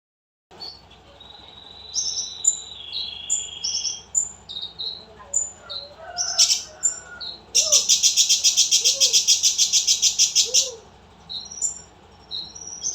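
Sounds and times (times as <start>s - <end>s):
lovebird singing: 0.5s - 12.9s.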